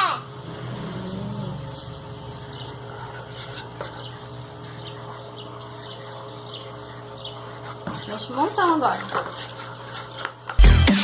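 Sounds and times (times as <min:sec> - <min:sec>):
steady low hum: 0:00.0 - 0:10.2
spoon stirring slime in a cup: 0:01.4 - 0:10.6.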